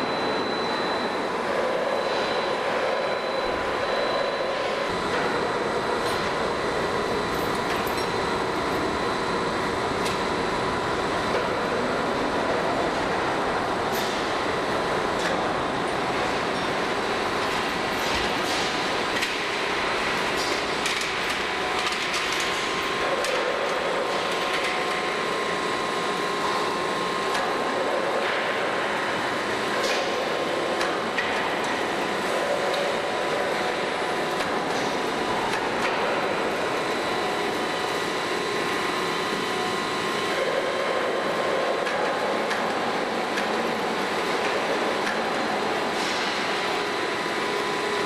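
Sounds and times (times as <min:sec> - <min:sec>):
machine whine: 0:00.0 - 0:48.0.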